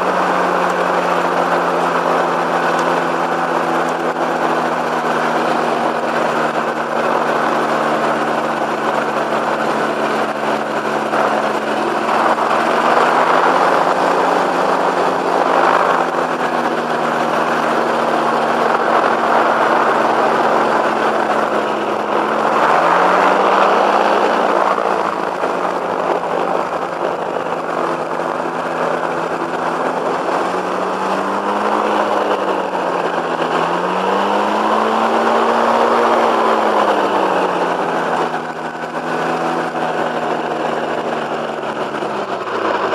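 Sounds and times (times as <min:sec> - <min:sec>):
microlight engine and propeller: 0:00.0 - 0:42.9.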